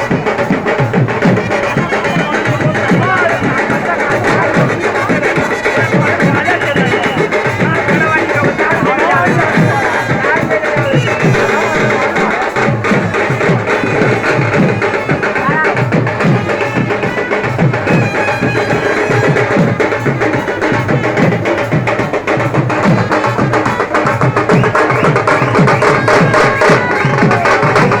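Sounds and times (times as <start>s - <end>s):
fast steady drumming: 0.0s - 28.0s.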